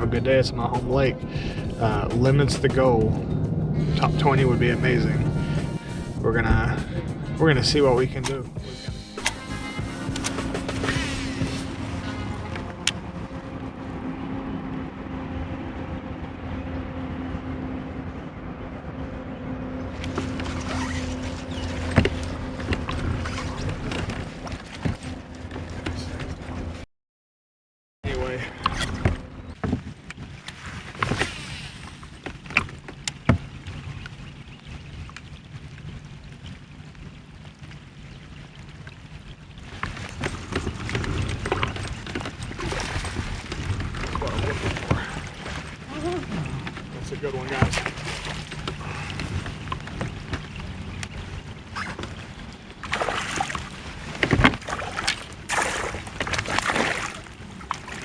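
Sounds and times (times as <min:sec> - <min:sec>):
water and wind rushing: 0:00.0 - 0:26.8, 0:28.1 - 0:58.0.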